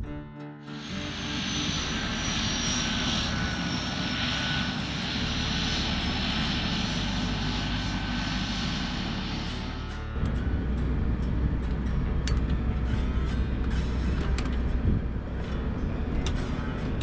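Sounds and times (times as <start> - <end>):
thin high whine: 0.7 - 17.0
turboprop aircraft engine running: 0.8 - 17.0.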